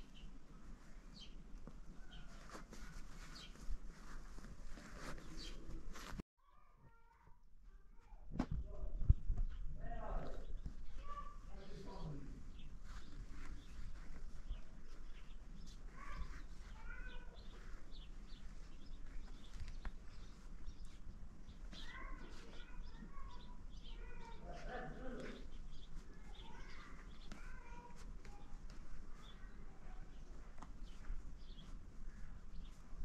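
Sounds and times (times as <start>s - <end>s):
birds chirping: 0.0s - 3.7s, 4.8s - 6.2s, 8.7s - 32.9s.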